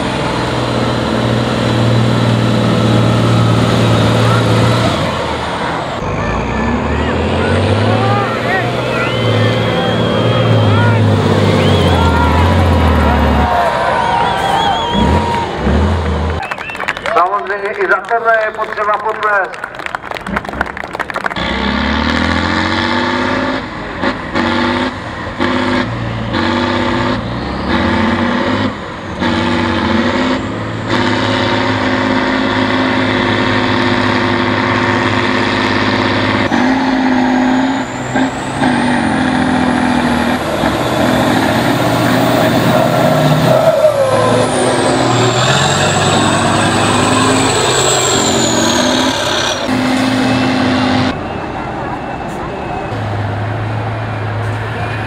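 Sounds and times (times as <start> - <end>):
truck diesel engines revving: 0.0 - 55.0.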